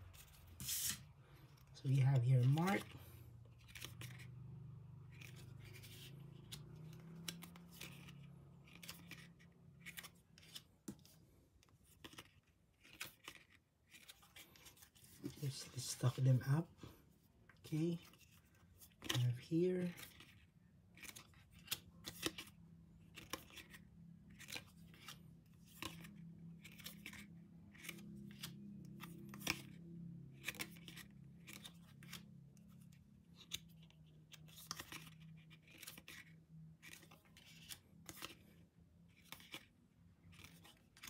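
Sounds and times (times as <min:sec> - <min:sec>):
photo cards clicking and rustling: 0:00.0 - 0:16.6, 0:17.5 - 0:41.0.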